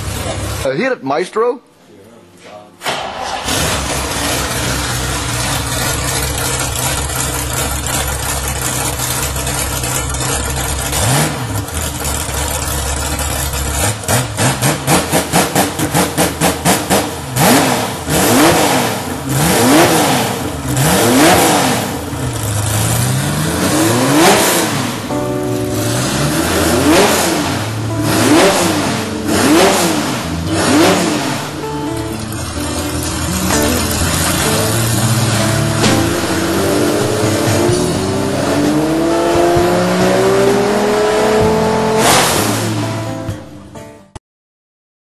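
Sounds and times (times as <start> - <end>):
car engine idling and revving: 0.0 - 0.7, 2.9 - 43.8.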